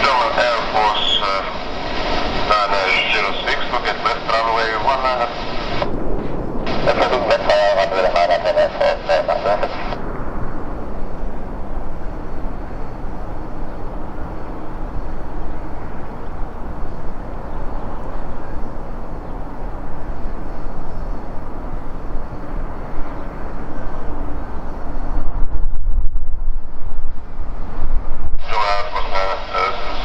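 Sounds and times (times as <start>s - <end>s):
faint high whine: 0.0s - 30.0s
jet engine rumble: 0.0s - 30.0s.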